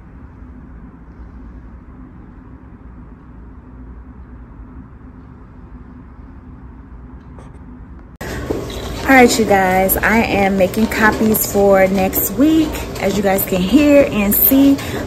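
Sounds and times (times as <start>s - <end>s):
low rumble and hiss: 0.0s - 14.3s
faint hum: 0.0s - 15.0s.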